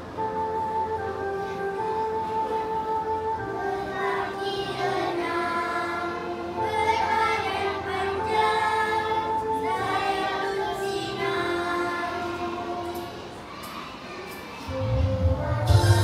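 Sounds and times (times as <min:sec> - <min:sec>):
musical accompaniment: 0:00.0 - 0:13.7, 0:14.6 - 0:16.0
children singing: 0:01.5 - 0:16.0.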